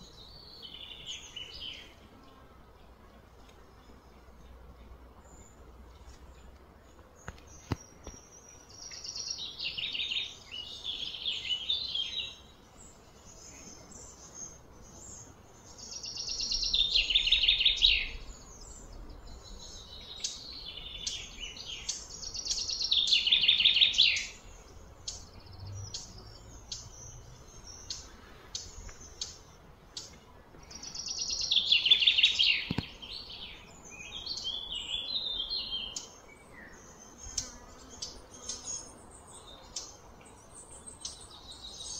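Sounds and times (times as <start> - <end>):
songbird chattering song: 0.0 - 41.9.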